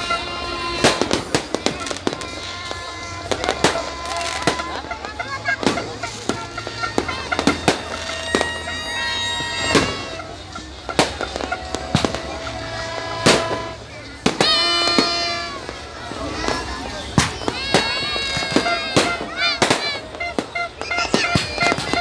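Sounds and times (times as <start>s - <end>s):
fireworks banging: 0.0s - 22.0s
horn-like tones: 0.0s - 22.0s.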